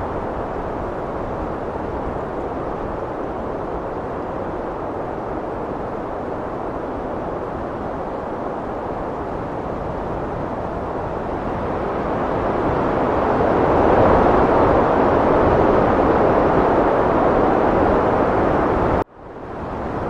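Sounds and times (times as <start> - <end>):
heavy wind blowing: 0.0 - 20.0.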